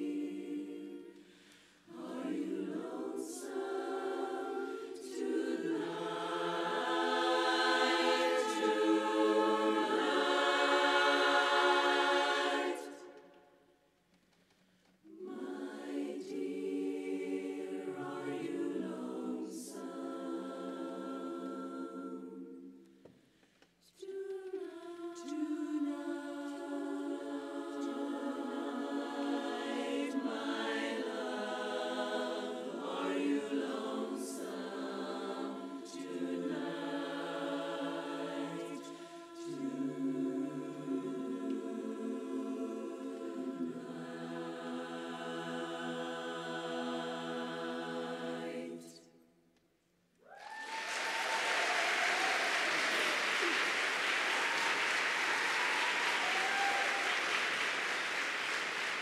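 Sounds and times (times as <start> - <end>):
women's chorus singing a cappella: 0.0 - 13.6, 15.0 - 49.4.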